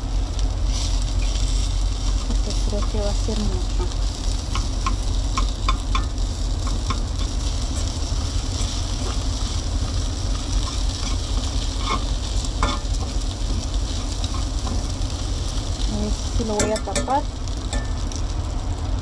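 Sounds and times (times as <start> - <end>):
food sizzling in a pot: 0.0 - 19.0
steady low hum: 0.0 - 19.0.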